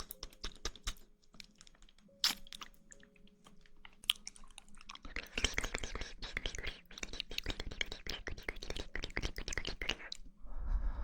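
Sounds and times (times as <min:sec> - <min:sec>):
wet chewing clicks: 0:00.0 - 0:10.3.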